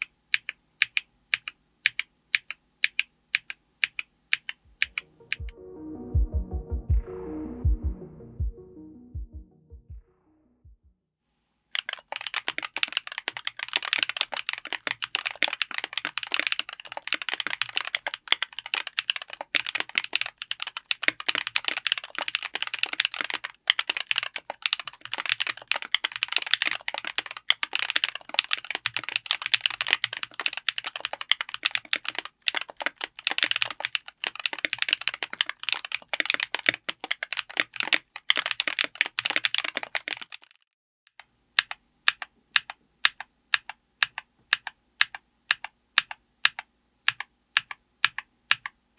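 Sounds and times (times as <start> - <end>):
fast typing on mechanical keyboard: 0.0 - 5.0, 11.8 - 40.6, 41.6 - 48.8.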